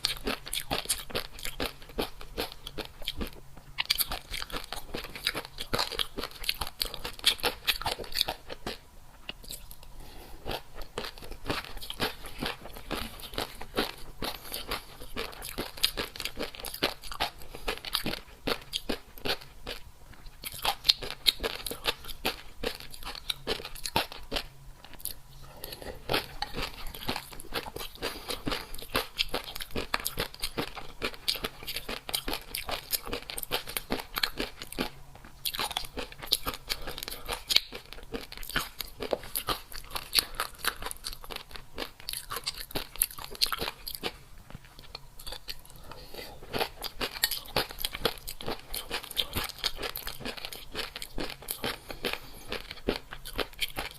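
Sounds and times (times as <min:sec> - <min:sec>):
person crunching crisp food: 0:00.0 - 0:53.9.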